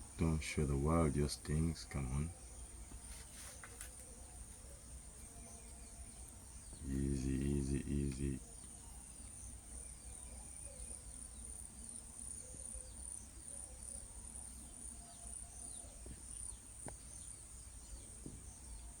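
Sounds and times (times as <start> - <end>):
birds chirping: 0.0 - 19.0
insects droning: 0.0 - 19.0.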